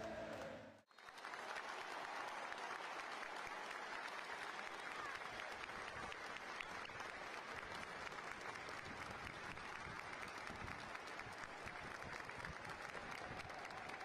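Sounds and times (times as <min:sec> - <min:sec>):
crowd clapping: 0:00.0 - 0:14.0
stadium crowd noise: 0:00.0 - 0:14.0.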